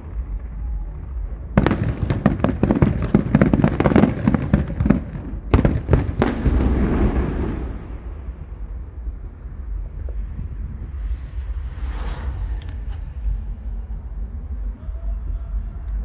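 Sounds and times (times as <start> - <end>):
fireworks cracking and banging: 0.0 - 14.8
fireworks rumble: 0.0 - 16.0.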